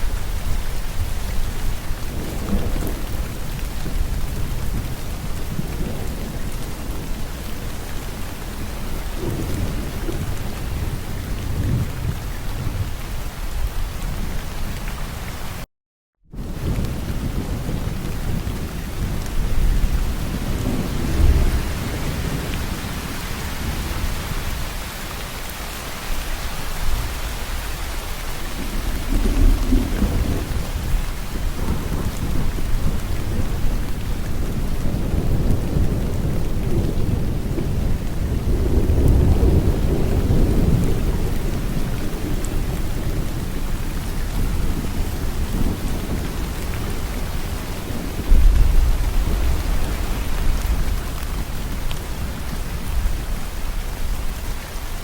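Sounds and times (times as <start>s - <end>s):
low thunder rumbling: 0.0s - 14.6s, 16.3s - 25.0s, 26.2s - 55.0s
heavy rain falling: 0.0s - 15.7s, 16.3s - 55.0s.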